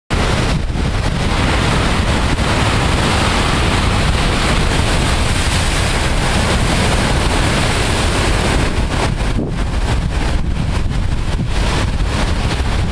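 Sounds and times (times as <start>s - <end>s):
surf crashing over rocks: 0.1s - 12.9s
wind buffeting microphone: 0.1s - 12.9s.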